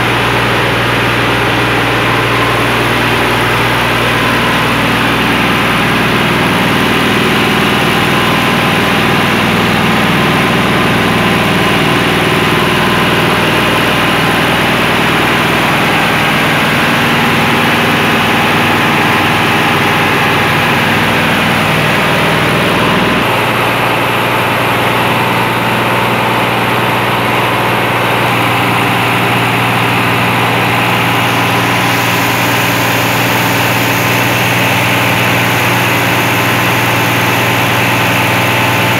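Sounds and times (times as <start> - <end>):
engine running under load: 0.0 - 38.9.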